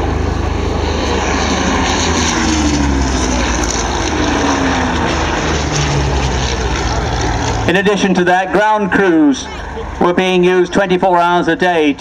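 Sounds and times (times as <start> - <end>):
propeller aircraft engines: 0.0 - 12.0.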